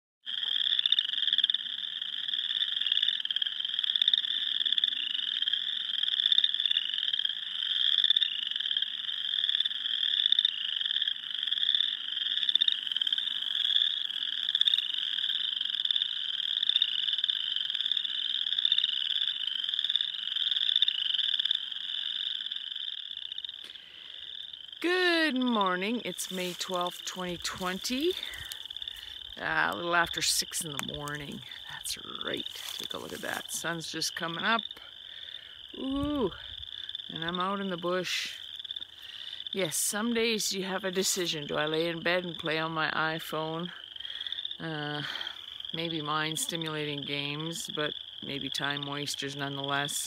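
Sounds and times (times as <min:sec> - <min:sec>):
frogs trilling in chorus: 0:00.2 - 0:50.0.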